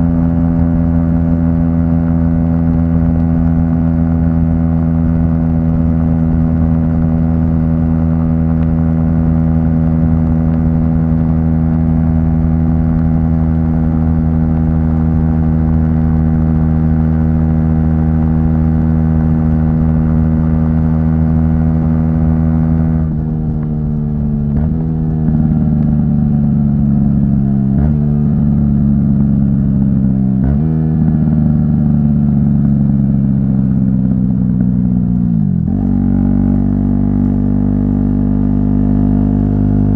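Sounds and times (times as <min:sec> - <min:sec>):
motorcycle engine cruising: 0:00.0 - 0:39.9
motorcycle engine revving on downshifts: 0:00.0 - 0:39.9.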